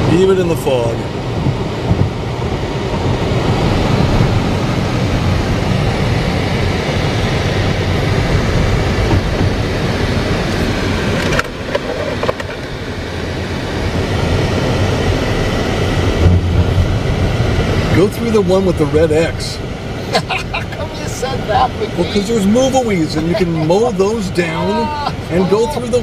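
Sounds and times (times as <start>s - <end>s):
tyre and wind noise in car: 0.0s - 26.0s.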